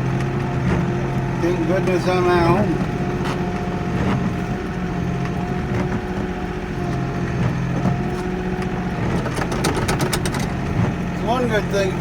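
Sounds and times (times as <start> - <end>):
diesel tractor running: 0.0 - 12.0.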